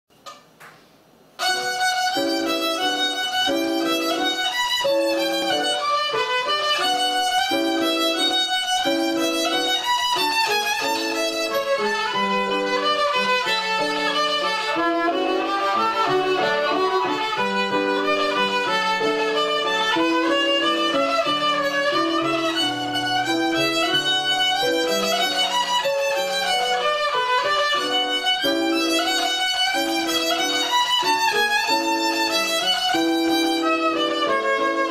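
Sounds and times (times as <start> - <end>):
violin playing lively run: 1.4 - 34.9.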